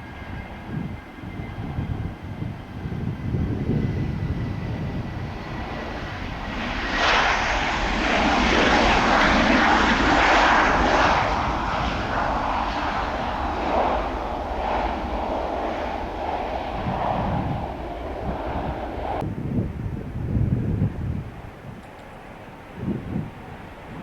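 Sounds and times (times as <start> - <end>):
jet airliner engine noise: 0.0 - 24.0.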